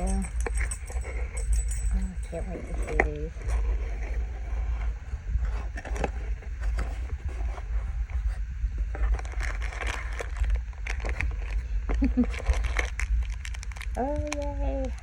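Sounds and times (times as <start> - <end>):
packaging rustling and scraping: 0.0 - 15.0.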